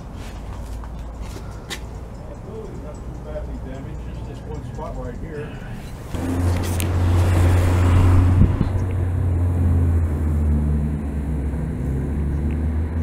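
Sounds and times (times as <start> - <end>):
large engine droning: 1.0 - 13.0.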